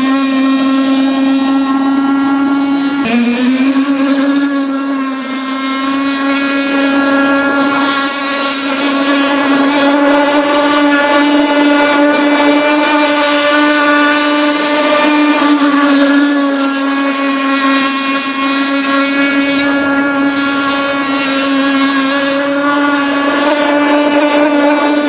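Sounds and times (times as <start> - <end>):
rc boat engine buzzing whine: 0.0 - 25.0.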